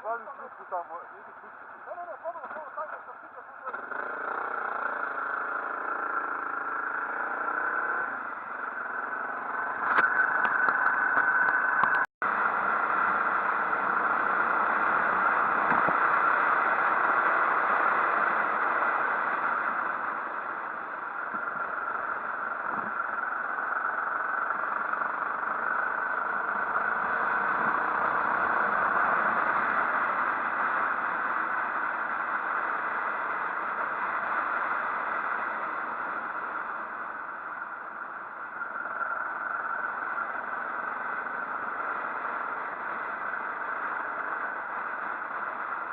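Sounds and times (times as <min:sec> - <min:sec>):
motorcycle engine running: 0:01.3 - 0:45.9.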